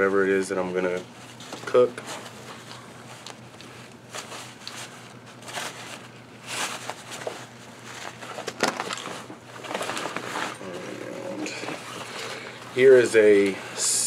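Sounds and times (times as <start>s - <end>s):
fabric rustling and scraping: 0.8s - 14.0s.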